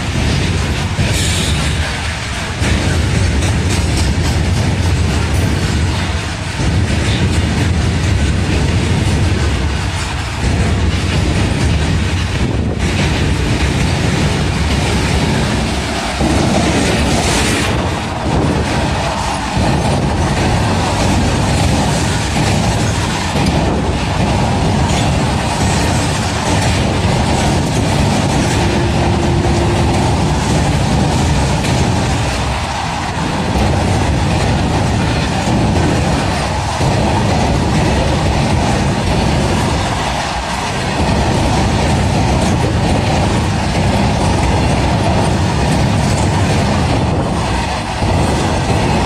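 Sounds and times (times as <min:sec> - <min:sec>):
freight train rumbling past: 0:00.0 - 0:49.0
wheels clattering over rail joints: 0:00.0 - 0:49.0.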